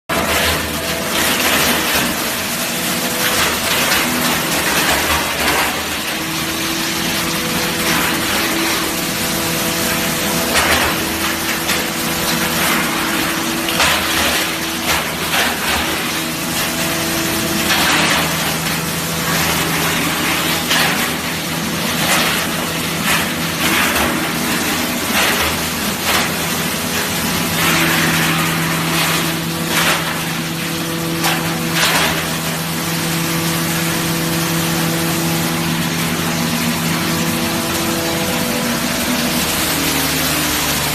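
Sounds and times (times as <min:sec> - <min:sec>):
wood mill grinding wood: 0:00.1 - 0:40.9.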